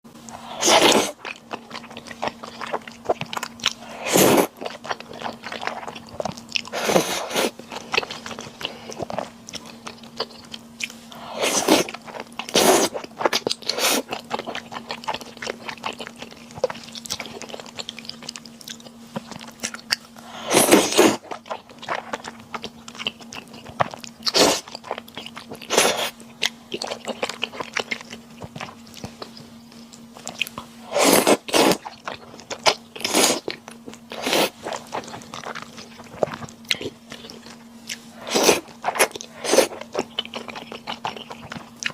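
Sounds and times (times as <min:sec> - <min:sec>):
faint steady hum: 0:00.0 - 0:41.9
wet chewing: 0:00.2 - 0:41.9.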